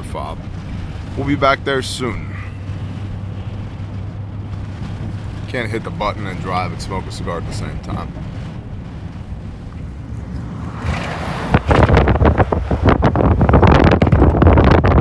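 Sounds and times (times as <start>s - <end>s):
low road rumble: 0.0s - 15.0s
wind buffeting microphone: 0.0s - 15.0s.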